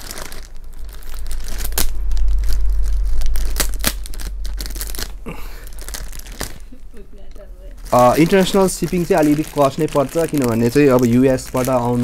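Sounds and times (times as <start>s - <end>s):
low handling rumble: 0.0s - 12.0s
plastic bag crinkling and tearing: 0.0s - 12.0s.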